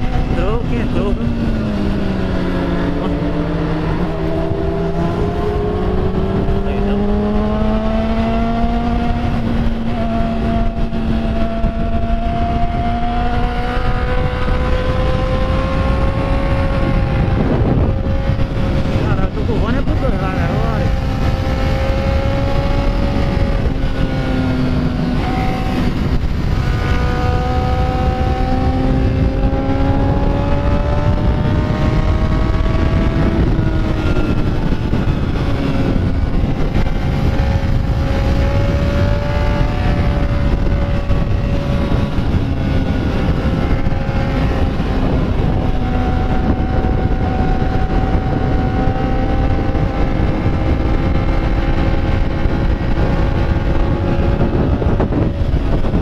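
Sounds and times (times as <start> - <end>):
motorcycle engine running: 0.0 - 56.0
wind rushing: 0.0 - 56.0.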